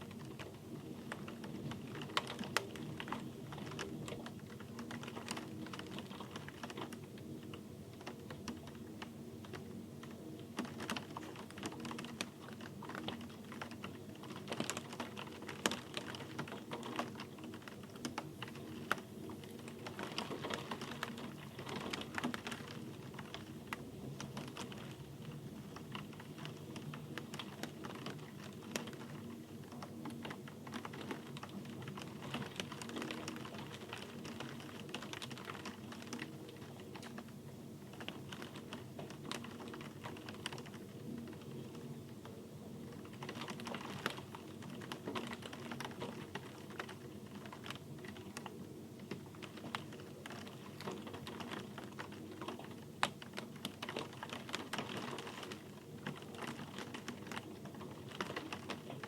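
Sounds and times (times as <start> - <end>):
rain dripping on hard surface: 0.0 - 59.0.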